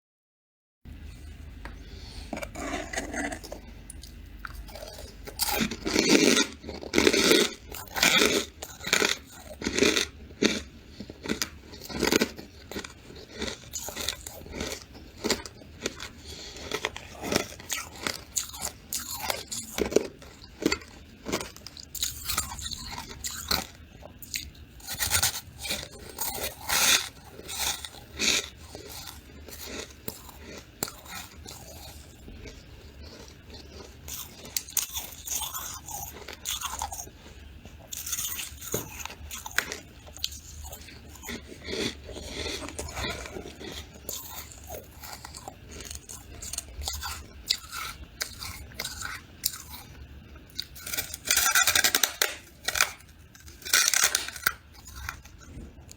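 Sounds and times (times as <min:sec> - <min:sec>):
person crunching frost: 0:01.0 - 0:49.9, 0:50.5 - 0:55.9.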